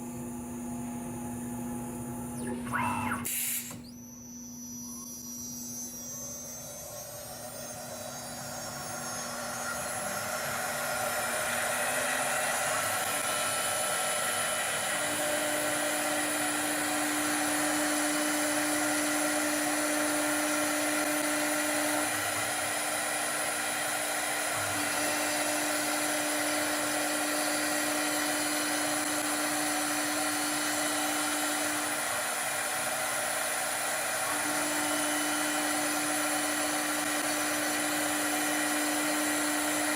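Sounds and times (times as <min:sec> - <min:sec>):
wood-turning lathe motor whine: 0:00.0 - 0:39.9.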